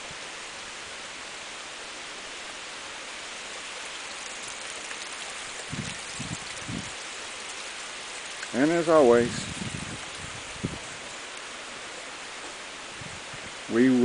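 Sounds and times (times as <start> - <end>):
gentle rain falling: 0.0 - 14.0.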